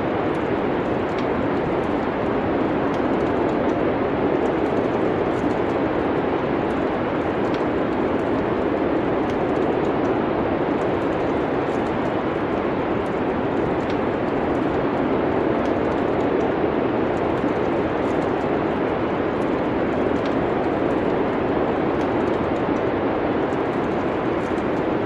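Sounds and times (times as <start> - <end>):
steady rushing noise: 0.0 - 25.0
wood fire crackles: 0.0 - 25.0.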